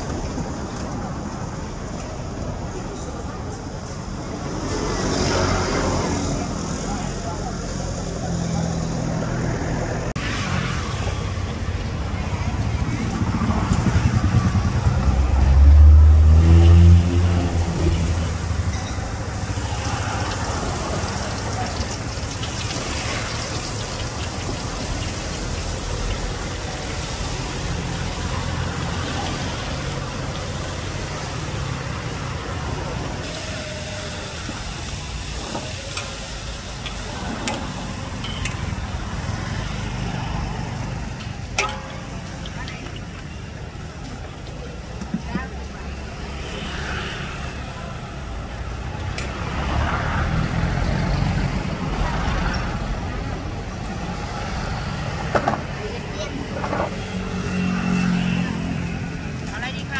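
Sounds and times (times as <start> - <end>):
passing road traffic rumble: 0.0 - 59.9
hot oil sizzling: 4.3 - 55.2.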